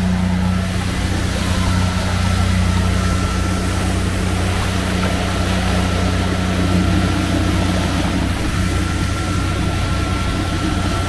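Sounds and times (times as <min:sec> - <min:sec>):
outboard motor running: 0:00.0 - 0:11.0
rush of wind and water: 0:00.0 - 0:11.0.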